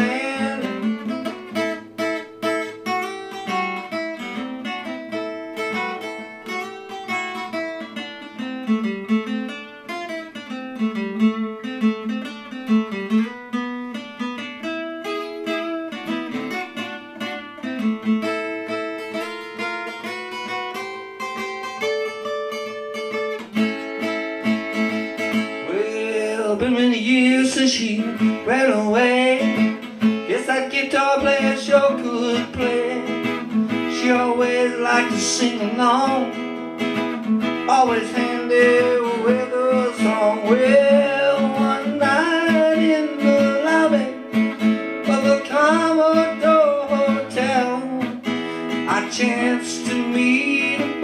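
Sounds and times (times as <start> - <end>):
acoustic guitar picking: 0.0 - 51.0.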